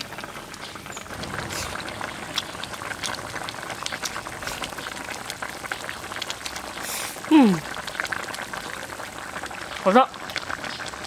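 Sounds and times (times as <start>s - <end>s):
stew bubbling and popping: 0.0s - 11.0s.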